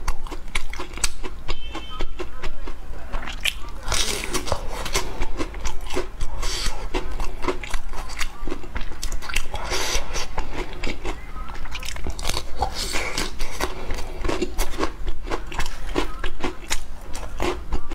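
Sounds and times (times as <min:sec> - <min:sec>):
chewing and biting biscuits: 0:00.0 - 0:17.9.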